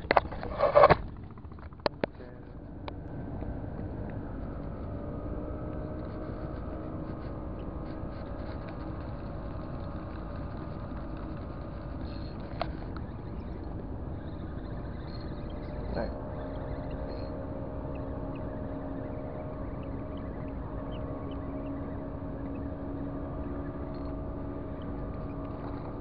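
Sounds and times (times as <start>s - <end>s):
engine running low rumble: 0.0s - 26.0s
faint held tones: 2.0s - 26.0s.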